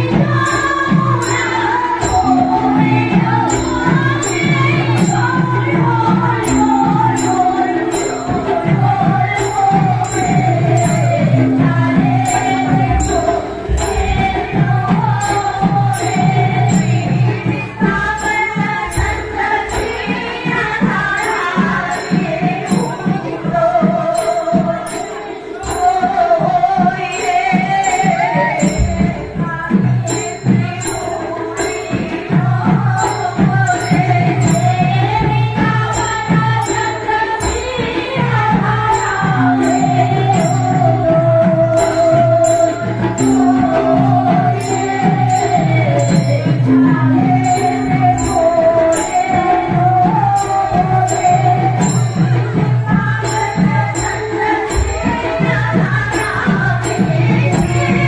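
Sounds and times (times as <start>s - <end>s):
drum beat: 0.0s - 24.8s, 32.4s - 58.0s
devotional singing: 0.0s - 58.0s
small metal cymbals: 0.0s - 58.0s.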